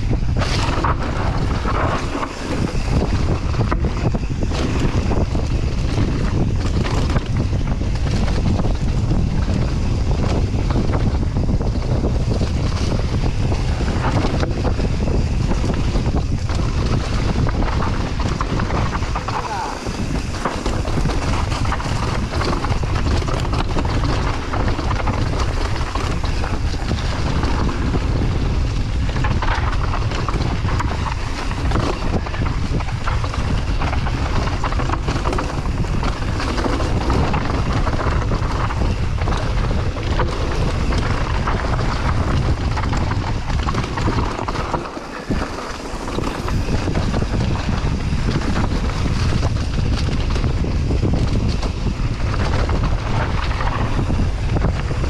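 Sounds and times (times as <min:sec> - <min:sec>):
bike knocks and rattles: 0:00.0 - 0:55.0
bike tyres rolling on dirt: 0:00.0 - 0:55.0
wind buffeting microphone: 0:00.0 - 0:55.0.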